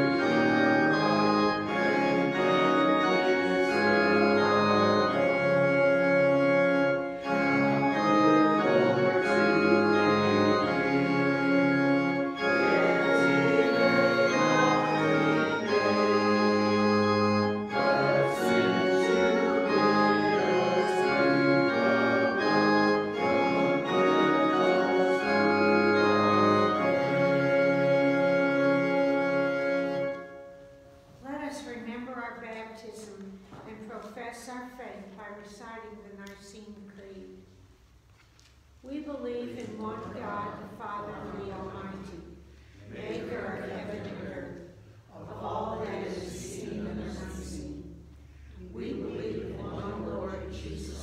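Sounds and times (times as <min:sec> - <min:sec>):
church organ playing chords: 0:00.0 - 0:31.2, 0:39.8 - 0:51.0.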